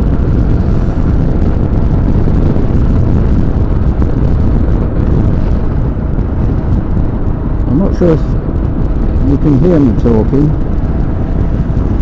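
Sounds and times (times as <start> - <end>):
motorcycle wind engine and road noise: 0.0 - 12.0.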